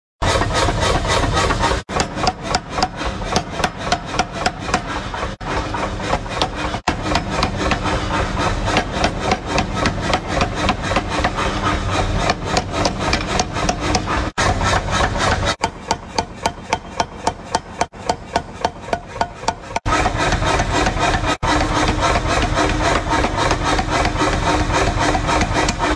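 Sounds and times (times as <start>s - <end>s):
power hammer pounding steel: 0.2s - 25.9s.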